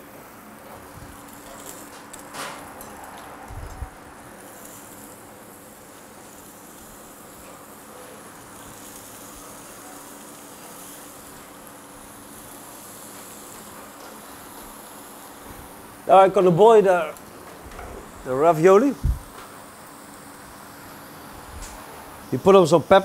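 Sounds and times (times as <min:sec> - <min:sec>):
cooling fan: 0:00.0 - 0:23.0
induction hob buzzing hum: 0:00.0 - 0:23.0.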